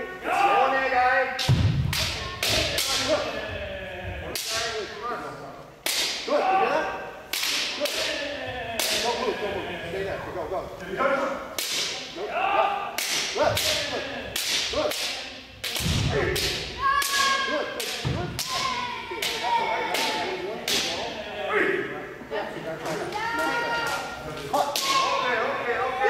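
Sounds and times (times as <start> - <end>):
people shouting: 0.0 - 4.8, 6.0 - 10.2, 11.7 - 21.9, 23.2 - 26.0.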